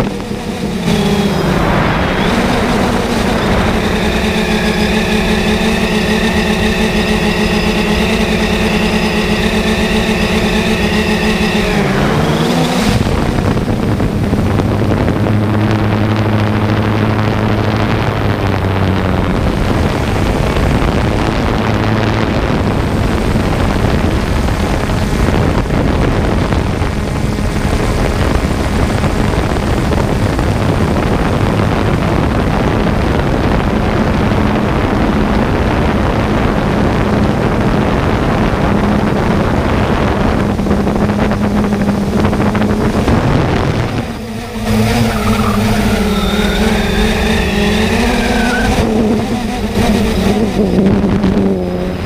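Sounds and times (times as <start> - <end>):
drone propellers whirring: 0.0 - 52.0
wind noise on microphone: 0.0 - 52.0.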